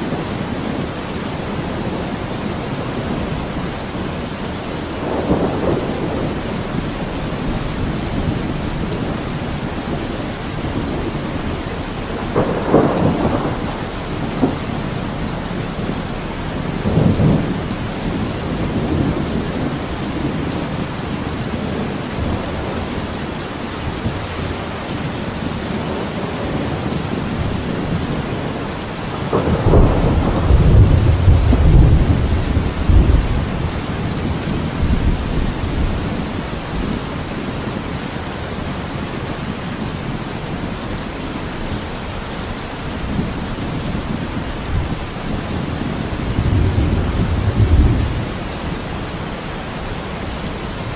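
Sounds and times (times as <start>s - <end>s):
heavy rain: 0.0s - 50.9s
thunder rumbling: 0.0s - 50.9s.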